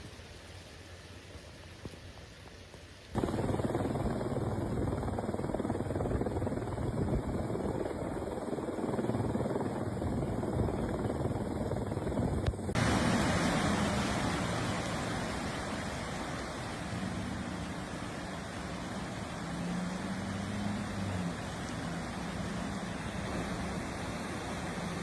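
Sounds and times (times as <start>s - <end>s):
helicopter rotor and engine: 3.2s - 25.0s.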